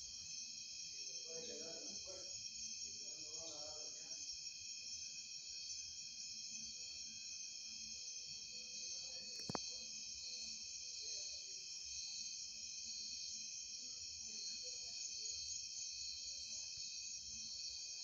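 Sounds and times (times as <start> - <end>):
night insects chirping: 0.0 - 18.0.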